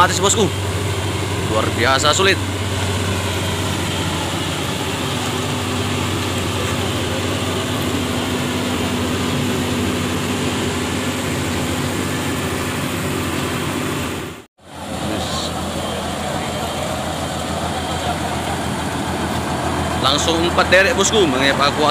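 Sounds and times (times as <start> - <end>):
diesel engines running: 0.0 - 21.9.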